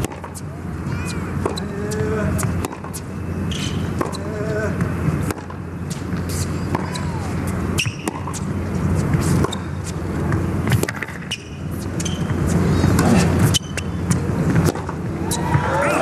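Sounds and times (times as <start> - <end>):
racket striking tennis ball: 0.0 - 0.4, 1.4 - 15.7
low background hum: 0.0 - 16.0.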